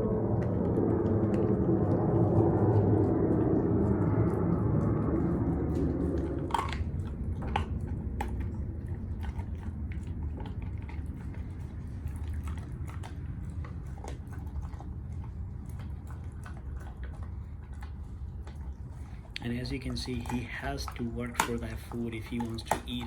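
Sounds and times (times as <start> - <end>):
dog chewing a bone: 0.0 - 23.0.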